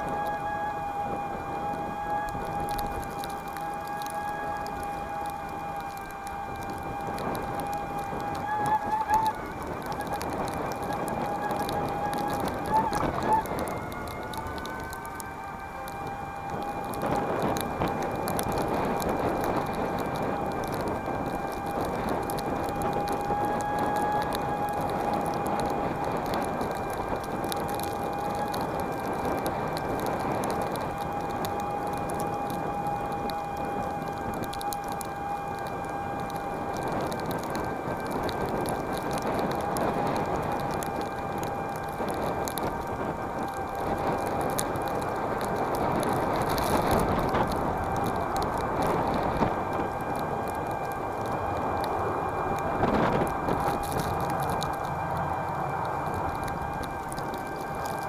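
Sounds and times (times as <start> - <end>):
small crackles: 0.0 - 58.0
tyre and wind noise: 0.0 - 58.0
small clicks: 1.6 - 54.9.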